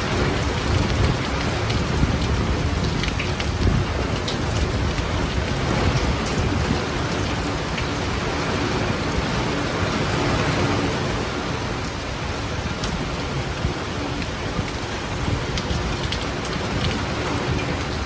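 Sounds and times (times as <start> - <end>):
heavy rain pouring: 0.0 - 18.0
low rumble of thunder: 0.0 - 18.0.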